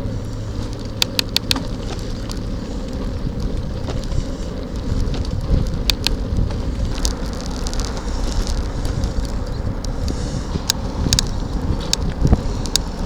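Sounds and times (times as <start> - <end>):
wind rumbling on microphone: 0.0 - 13.0
sharp ticks: 0.3 - 13.0.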